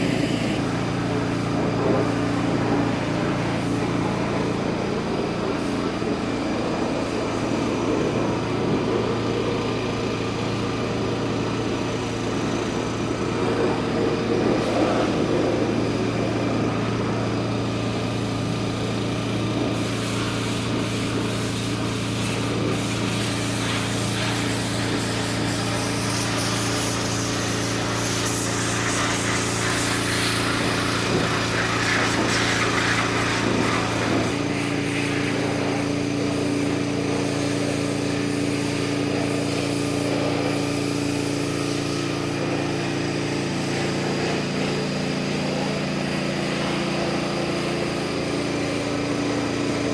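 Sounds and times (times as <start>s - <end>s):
mini digger engine running: 0.0s - 49.9s.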